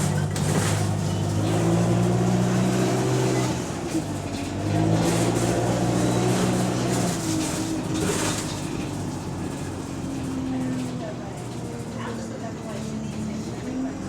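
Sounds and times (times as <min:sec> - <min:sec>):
bus engine pulling under load: 0:00.0 - 0:14.0.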